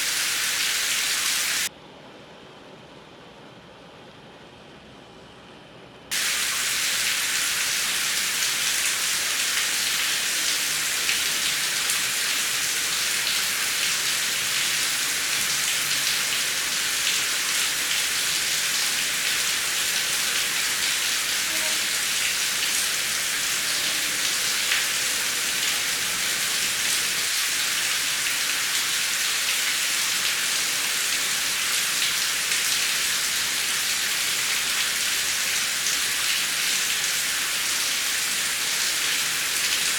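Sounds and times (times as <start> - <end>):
heavy rain: 0.0 - 1.7, 6.1 - 39.9.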